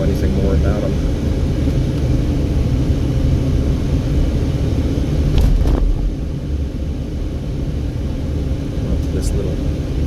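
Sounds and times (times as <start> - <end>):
car driving slowly from inside: 0.0 - 10.0.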